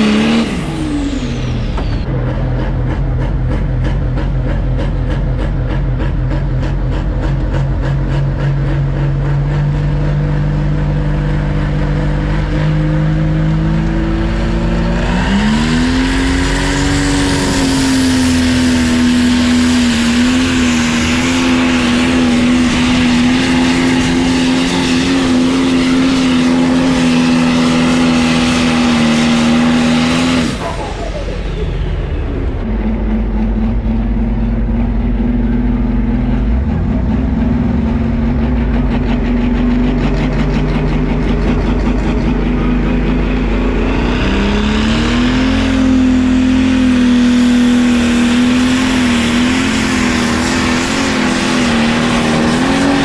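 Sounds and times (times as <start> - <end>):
second tractor engine revving: 0.0 - 53.0
tractor engine at full throttle: 0.0 - 53.0.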